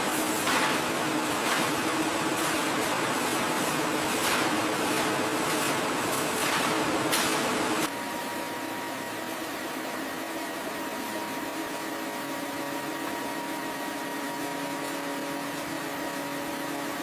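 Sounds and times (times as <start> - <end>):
machinery hum: 0.0 - 16.8.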